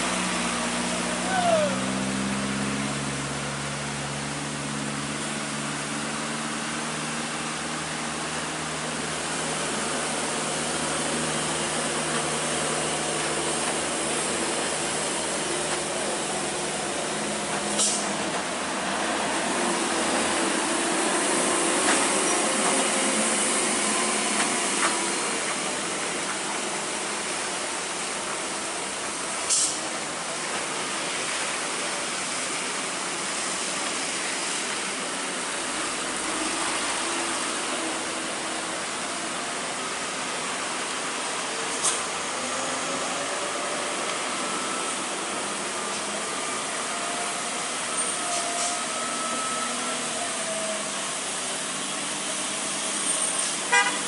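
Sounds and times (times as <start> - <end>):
truck engines under load: 0.0 - 54.0.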